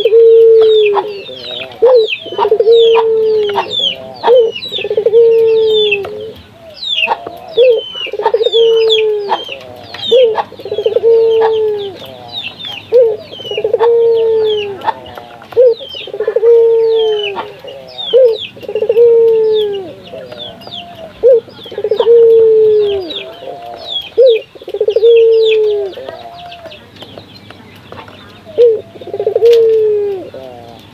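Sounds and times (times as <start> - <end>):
dove cooing: 0.0 - 30.9
small birds chirping: 0.0 - 30.9.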